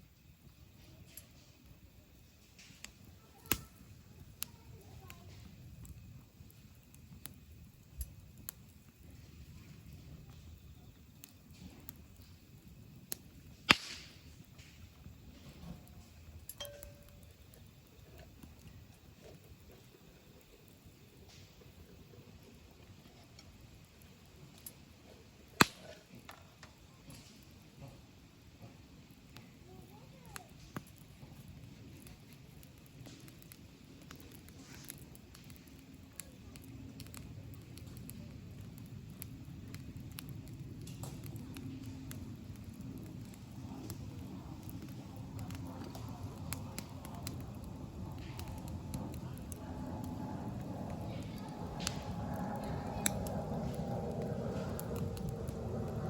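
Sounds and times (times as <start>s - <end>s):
wood campfire crackling: 0.0s - 56.0s.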